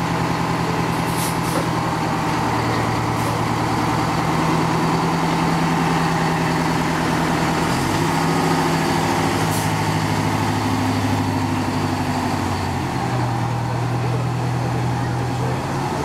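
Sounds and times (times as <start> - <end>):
fire truck engine running: 0.0 - 16.0.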